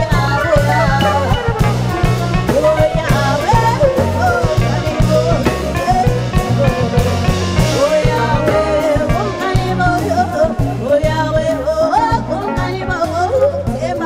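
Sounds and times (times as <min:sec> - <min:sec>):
live jazz band playing: 0:00.0 - 0:14.0
woman singing: 0:00.0 - 0:14.0.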